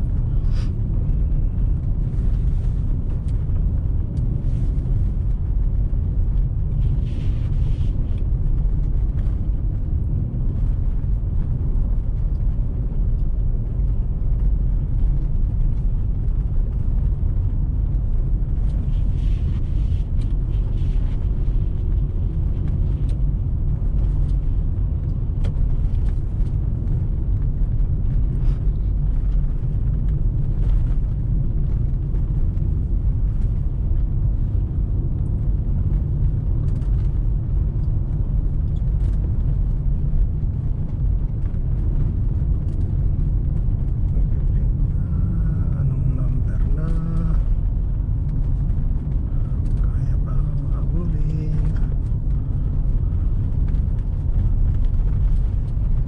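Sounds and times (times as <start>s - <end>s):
car driving on snowy road: 0.0s - 56.0s.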